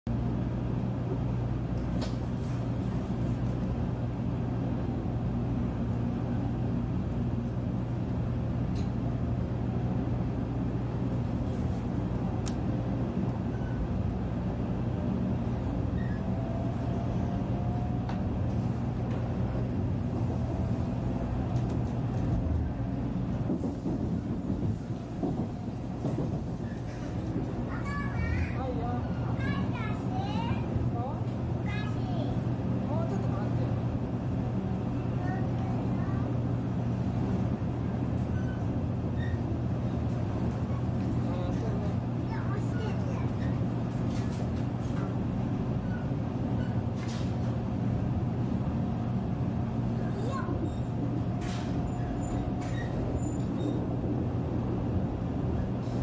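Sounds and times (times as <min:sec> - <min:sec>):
train hum and rumble: 0:00.1 - 0:56.0.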